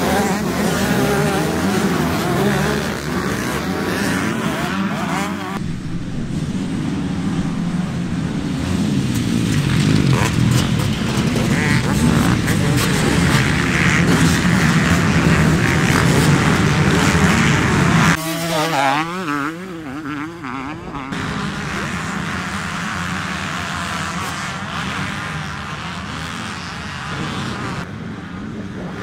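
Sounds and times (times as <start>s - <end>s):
motocross bike engines: 0.0s - 29.0s
motocross bike revving: 0.0s - 29.0s.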